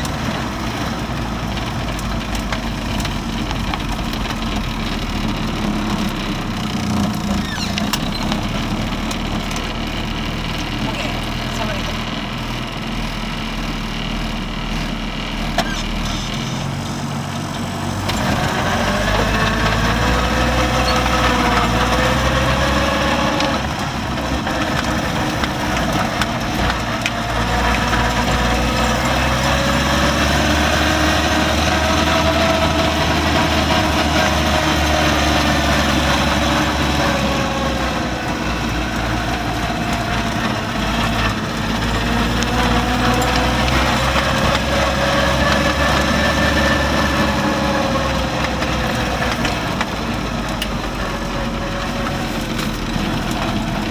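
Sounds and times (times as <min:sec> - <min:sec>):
drivetrain whine: 0:00.0 - 0:53.9
vehicle engine running: 0:00.0 - 0:53.9.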